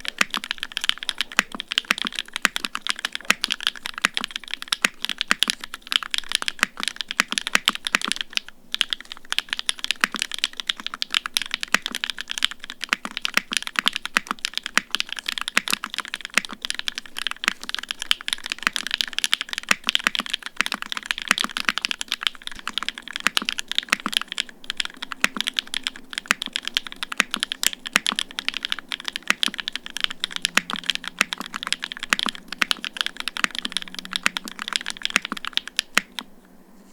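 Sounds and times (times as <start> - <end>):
mechanical keyboard typing: 0.0 - 36.4.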